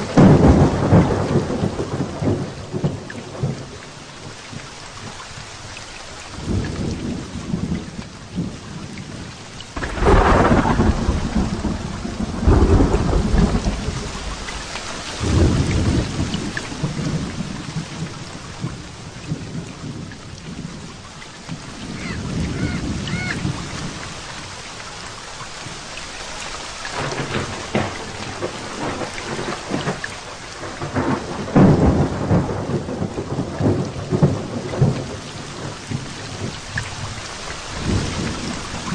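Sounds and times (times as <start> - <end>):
thunder cracking and rumbling: 0.0 - 3.9, 6.4 - 20.9, 21.5 - 24.0, 26.9 - 38.9
heavy rain falling: 0.0 - 38.9.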